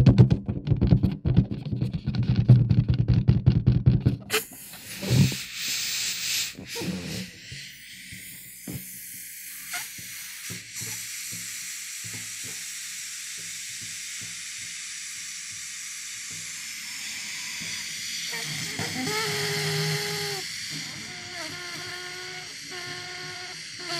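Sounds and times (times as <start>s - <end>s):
air hissing from a balloon: 4.3s - 23.9s.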